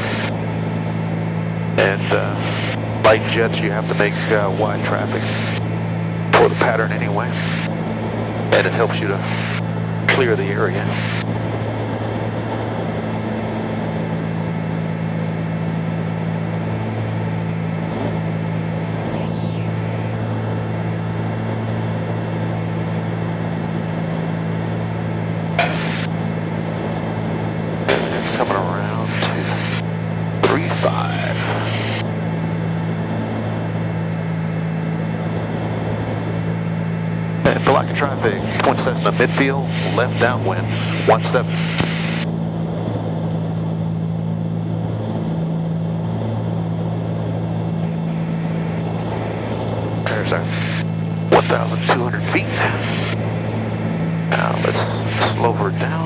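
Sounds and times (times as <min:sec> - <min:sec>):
air noise: 0:00.0 - 0:56.0
aircraft engines droning in cabin: 0:00.0 - 0:56.0.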